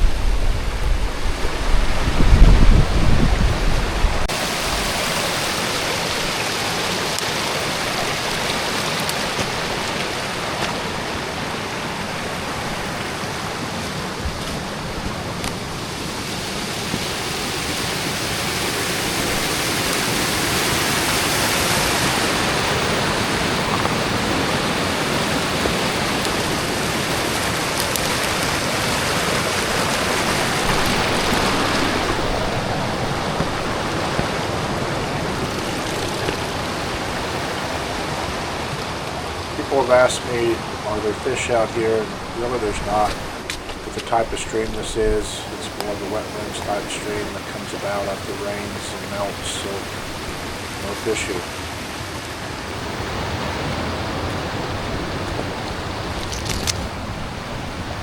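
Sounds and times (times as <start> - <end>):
creek rushing over rocks: 0.0 - 58.0.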